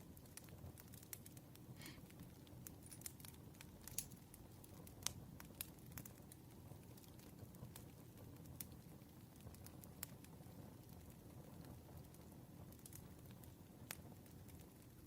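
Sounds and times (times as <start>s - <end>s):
campfire crackling and popping: 0.0s - 15.0s
low rumble of fire burning: 0.0s - 15.0s.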